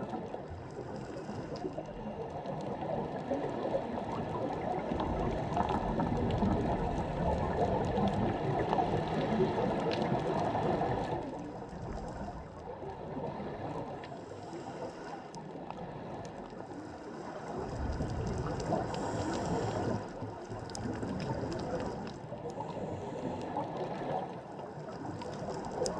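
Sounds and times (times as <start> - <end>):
faint underwater clicks: 0.0 - 25.9
muffled underwater rushing water: 0.0 - 25.9.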